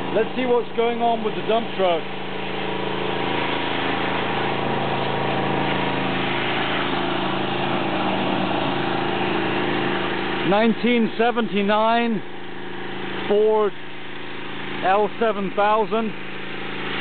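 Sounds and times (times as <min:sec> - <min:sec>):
engine running with hiss: 0:00.0 - 0:17.0.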